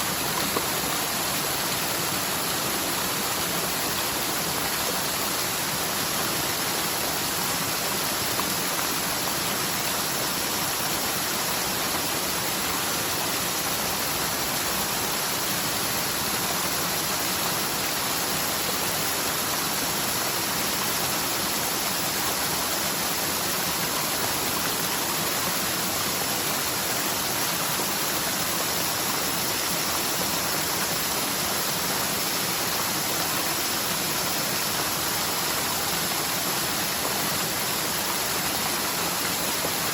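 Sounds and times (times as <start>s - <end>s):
stream rushing over its bed: 0.0s - 39.9s.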